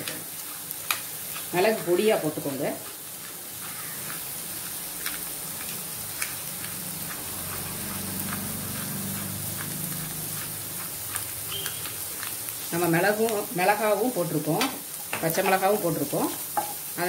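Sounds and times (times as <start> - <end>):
eggs sizzling in oil: 0.0 - 17.0.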